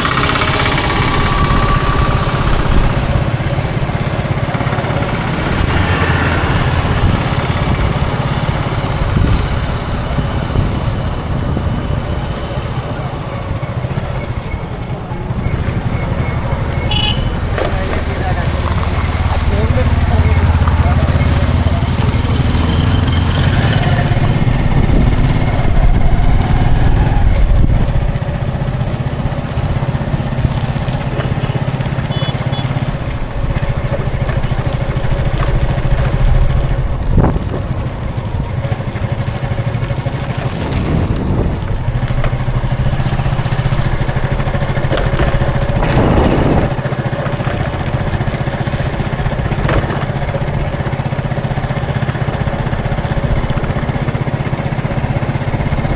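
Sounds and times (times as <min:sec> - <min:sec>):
road traffic: 0:00.0 - 0:55.9.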